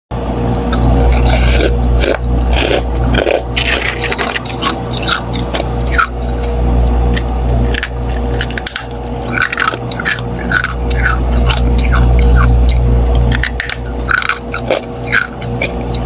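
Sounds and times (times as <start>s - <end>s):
steady low hum: 0.1s - 16.0s
ice crunching while chewed: 0.5s - 16.0s.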